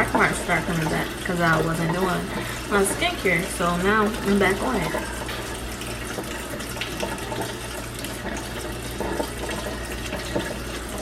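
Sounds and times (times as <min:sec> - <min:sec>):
tap running into sink: 0:00.0 - 0:11.0.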